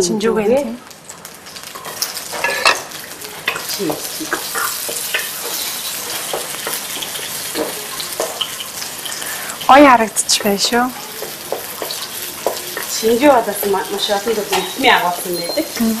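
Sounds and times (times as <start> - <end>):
peppers sizzling in oil: 0.0 - 16.0.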